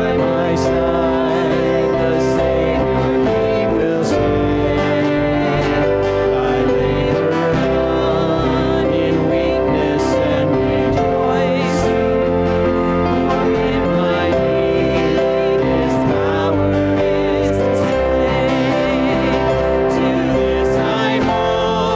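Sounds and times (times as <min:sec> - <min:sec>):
person singing: 0:00.0 - 0:21.9
sustained instrumental chords: 0:00.0 - 0:21.9.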